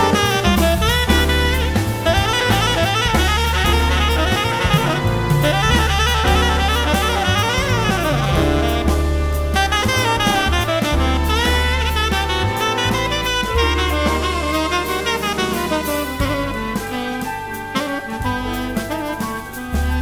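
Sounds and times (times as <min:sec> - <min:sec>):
bass: 0:00.0 - 0:20.0
drum kit: 0:00.0 - 0:20.0
saxophone: 0:00.0 - 0:20.0.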